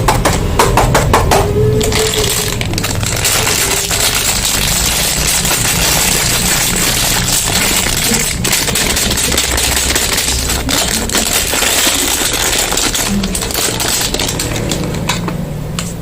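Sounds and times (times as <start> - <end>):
packaging crackling and rustling: 1.8 - 15.3.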